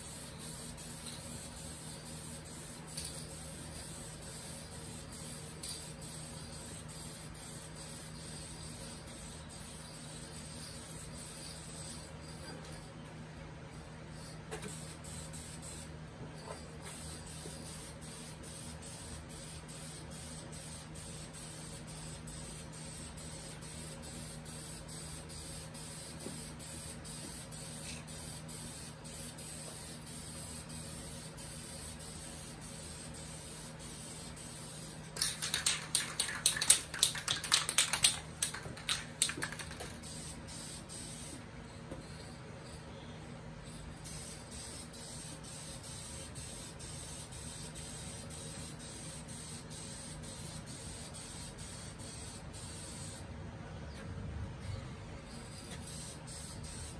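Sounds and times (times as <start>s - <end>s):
spray paint can hissing: 0.0s - 12.1s, 14.2s - 15.9s, 16.9s - 41.4s, 44.0s - 53.2s, 55.4s - 56.9s.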